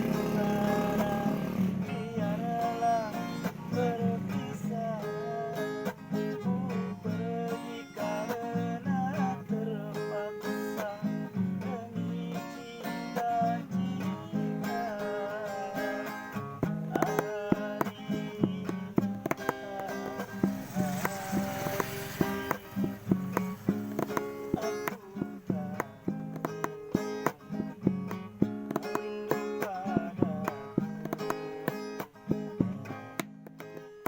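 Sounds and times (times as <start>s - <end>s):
acoustic guitar music: 0.0s - 34.0s.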